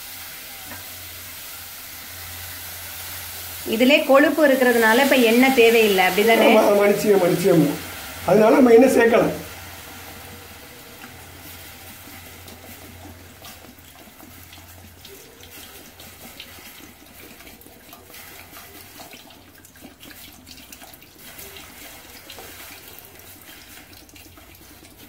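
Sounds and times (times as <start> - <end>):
water pouring into a pot: 0.0 - 25.0.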